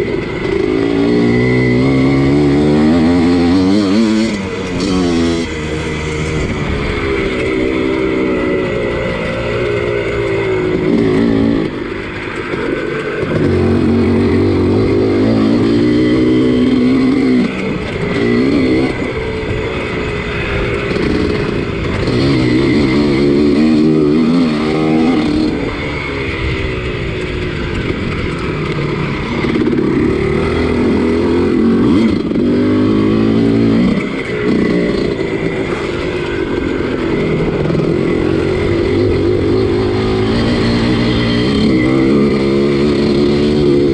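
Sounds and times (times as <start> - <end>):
two-stroke motocross engine revving: 0.0 - 43.9.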